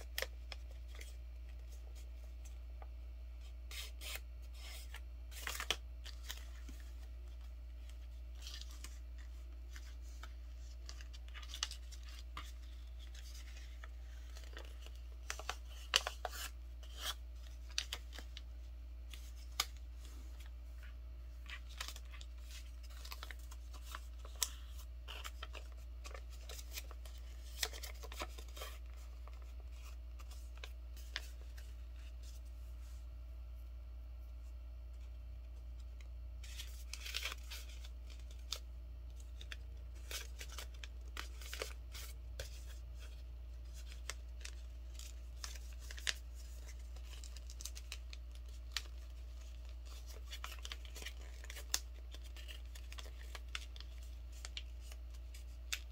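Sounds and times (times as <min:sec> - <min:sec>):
paper rustling and creasing: 0:00.0 - 0:33.1, 0:34.9 - 0:55.9.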